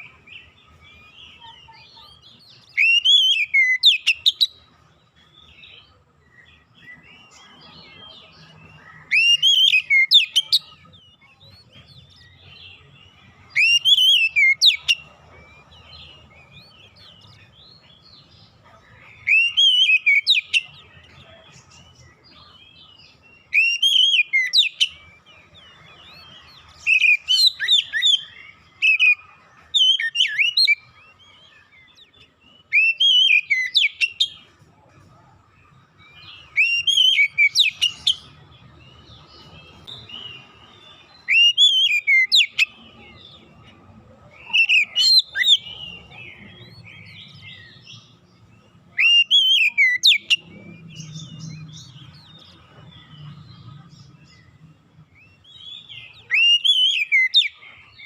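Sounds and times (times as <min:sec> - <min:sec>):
bird singing whistled notes: 0:00.0 - 0:34.6, 0:35.7 - 0:58.0.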